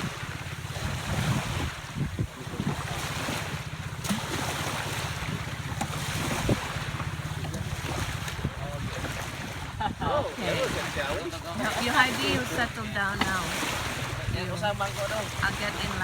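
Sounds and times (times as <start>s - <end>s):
wind noise on microphone: 0.0s - 3.7s, 5.1s - 16.0s
motorboat engine running: 0.0s - 16.0s
water: 0.0s - 16.0s.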